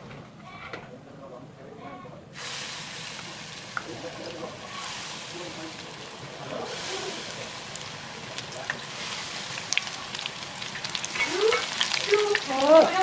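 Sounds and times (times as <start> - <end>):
hot oil sizzling and crackling: 2.4 - 13.0.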